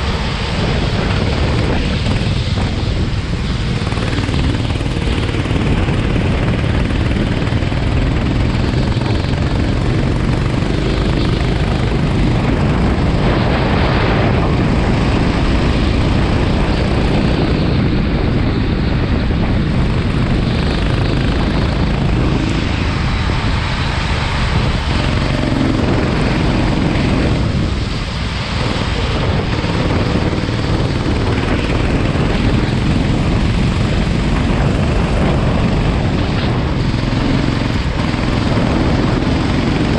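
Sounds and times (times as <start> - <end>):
racing kart engine: 0.0 - 39.9.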